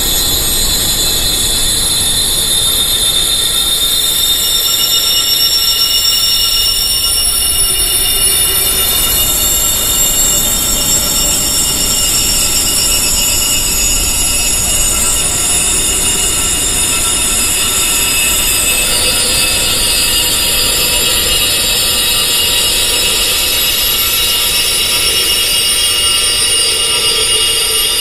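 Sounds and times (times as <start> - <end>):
high wind chimes ringing: 0.0 - 28.0.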